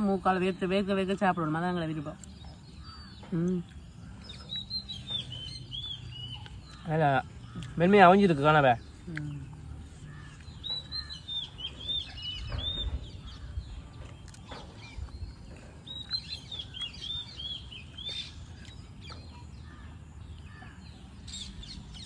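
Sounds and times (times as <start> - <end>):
small bird chirping: 0.0 - 22.0.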